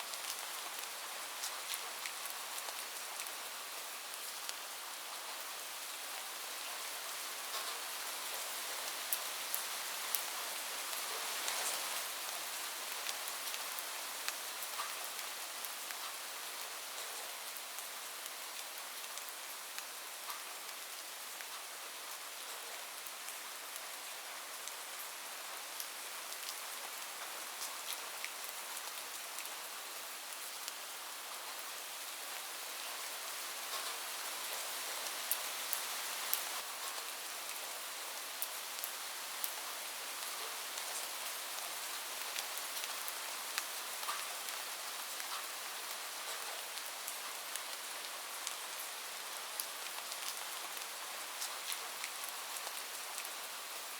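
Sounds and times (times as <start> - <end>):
heavy rain on a roof: 0.0 - 53.9.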